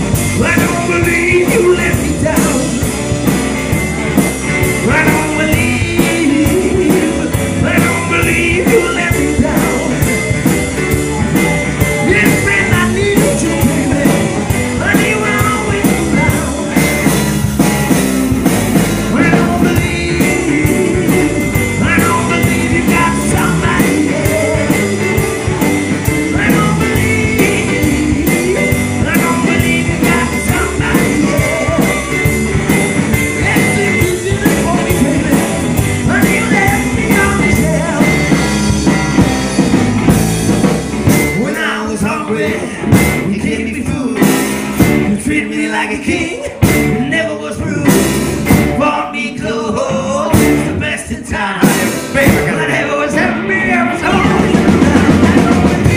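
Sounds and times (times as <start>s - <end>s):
person singing: 0.0s - 3.0s, 4.7s - 17.5s, 18.9s - 38.6s, 41.2s - 55.9s
live rock band playing: 0.0s - 55.9s.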